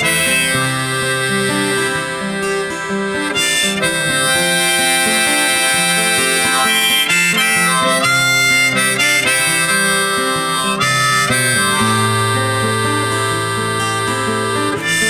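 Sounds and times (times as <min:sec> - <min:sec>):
harmonica over guitar: 0:00.0 - 0:15.0.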